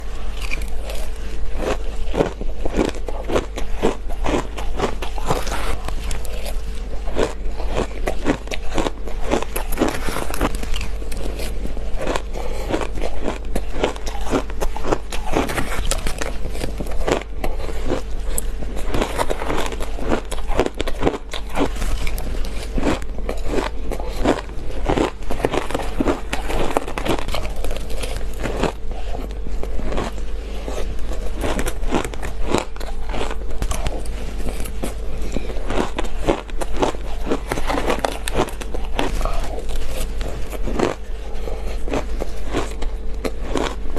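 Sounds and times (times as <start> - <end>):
ice crunched between teeth: 0.0 - 43.9
steady low hum: 0.0 - 43.9.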